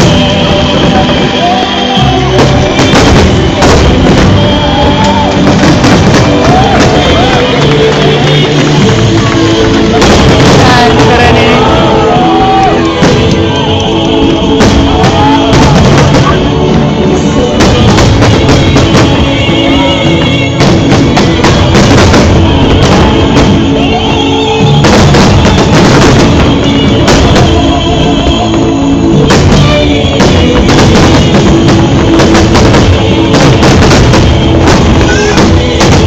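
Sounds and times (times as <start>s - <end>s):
drums: 0.0s - 36.0s
loud music: 0.0s - 36.0s
person singing: 0.0s - 36.0s.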